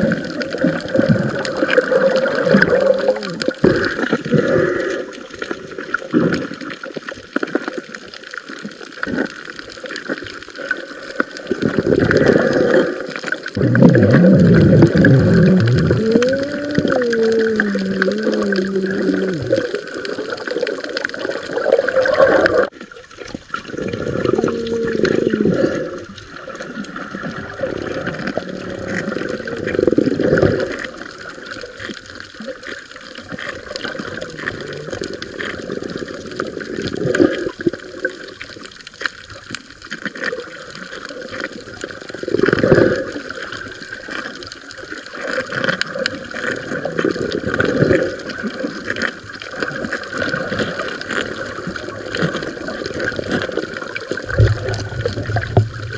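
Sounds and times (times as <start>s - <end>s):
water sloshing and gurgling: 0.0s - 55.9s.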